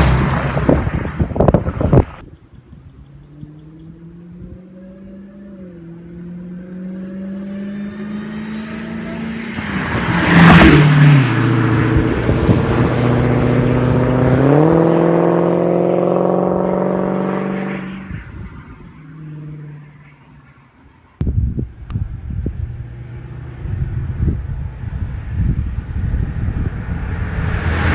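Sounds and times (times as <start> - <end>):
car engine passing at speed: 3.2 - 20.4, 22.1 - 27.9.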